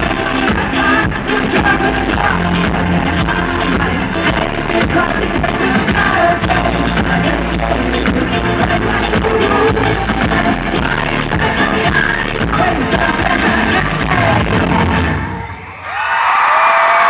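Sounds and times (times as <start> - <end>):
steady drum beat: 0.0 - 15.1
man singing: 0.0 - 15.2
live pop song through a pa: 0.0 - 15.8.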